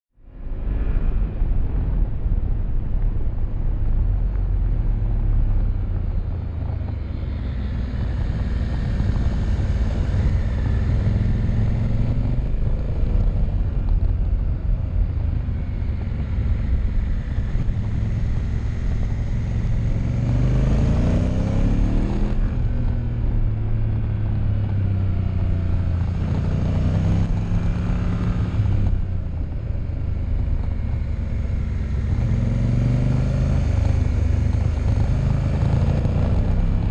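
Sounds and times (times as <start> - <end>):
wind rumble on microphone: 0.2 - 36.9
motorcycle engine accelerating: 0.7 - 36.9.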